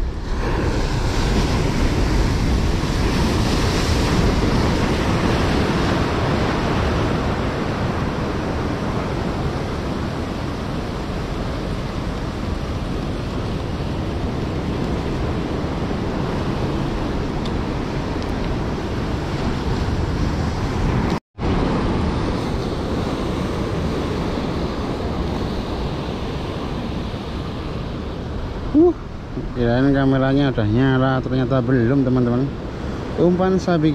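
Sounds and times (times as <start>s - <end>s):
surf breaking on shore: 0.0s - 33.9s
wind rumbling on microphone: 0.0s - 33.9s.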